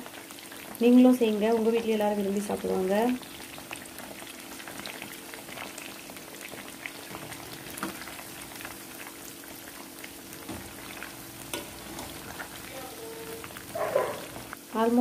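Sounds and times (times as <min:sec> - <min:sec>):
prawns deep-frying in oil: 0:00.0 - 0:15.0.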